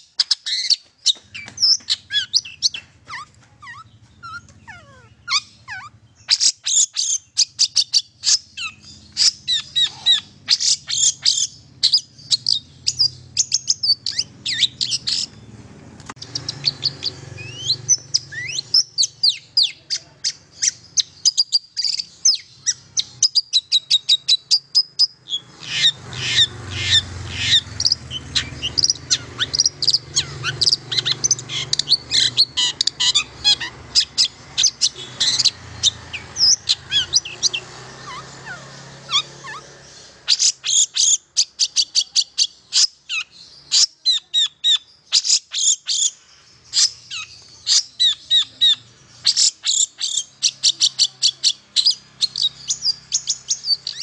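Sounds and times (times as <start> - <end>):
bird singing chirps and trills: 0.0 - 54.0.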